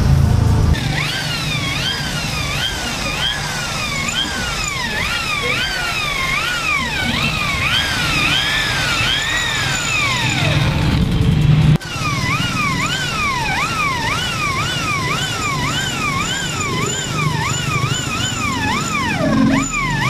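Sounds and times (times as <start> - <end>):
electric drill whining: 0.8 - 11.2, 11.8 - 20.0.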